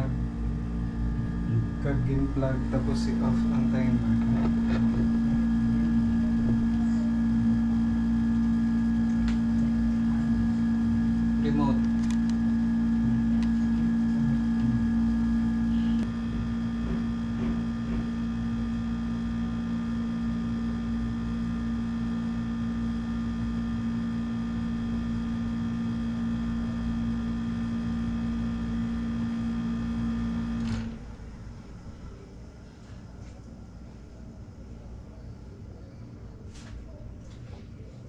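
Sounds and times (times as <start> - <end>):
air conditioner humming: 0.0 - 38.0.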